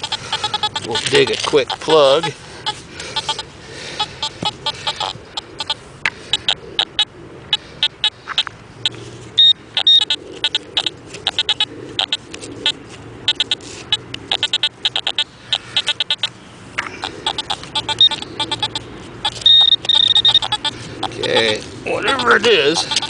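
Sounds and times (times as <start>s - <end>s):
metal detector beeping: 0.0s - 7.1s, 7.8s - 23.0s.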